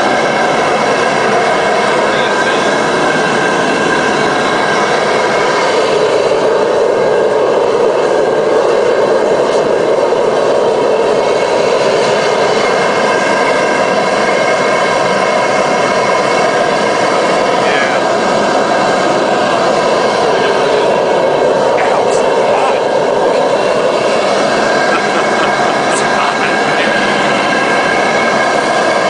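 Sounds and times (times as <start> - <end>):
propane heater rushing: 0.0 - 29.0.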